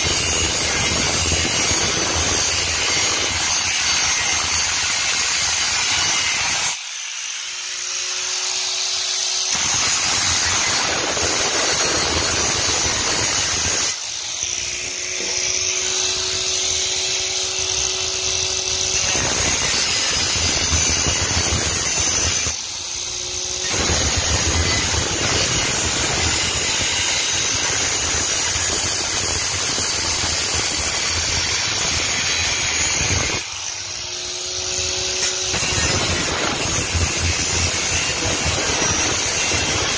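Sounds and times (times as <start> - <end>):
angle grinder cutting steel: 0.0 - 39.9
grinder motor whine: 0.0 - 39.9.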